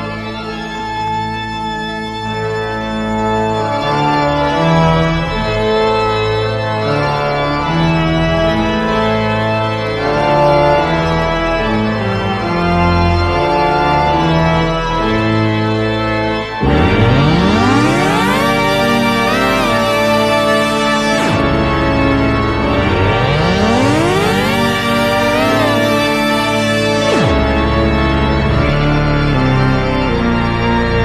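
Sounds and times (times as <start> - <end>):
organ music with slow chords: 0.0 - 31.0.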